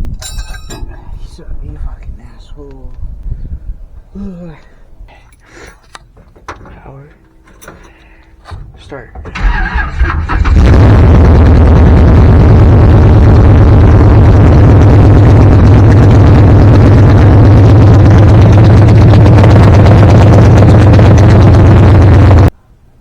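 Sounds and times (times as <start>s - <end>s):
truck engine starting and running: 0.0s - 3.1s, 5.3s - 22.6s.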